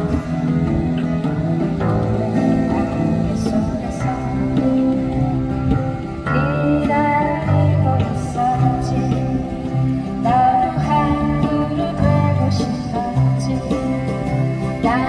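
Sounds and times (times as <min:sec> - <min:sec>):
acoustic guitar: 0:00.0 - 0:15.0
low bass notes: 0:00.0 - 0:15.0
person singing: 0:00.0 - 0:15.0.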